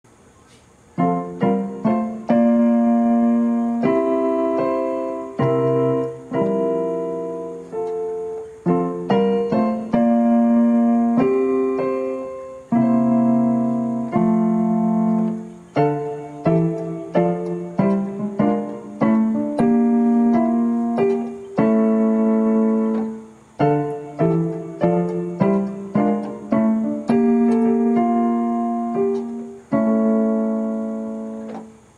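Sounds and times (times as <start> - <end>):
slow ringing chords: 1.0 - 31.5.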